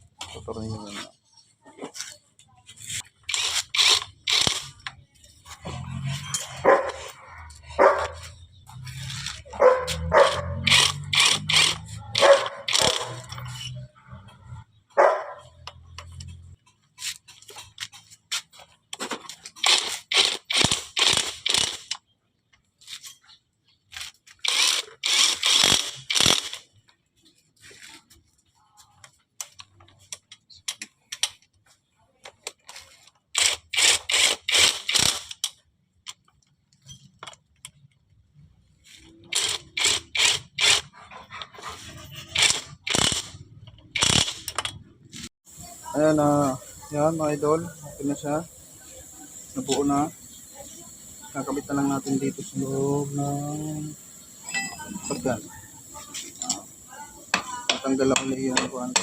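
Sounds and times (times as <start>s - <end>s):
hand tools clicking and scraping metal: 0.0s - 38.2s, 38.8s - 45.9s, 47.9s - 59.0s.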